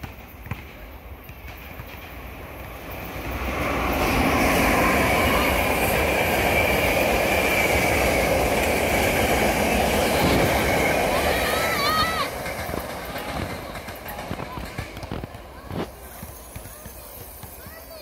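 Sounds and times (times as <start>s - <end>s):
train rumble and rail noise: 0.0s - 18.0s.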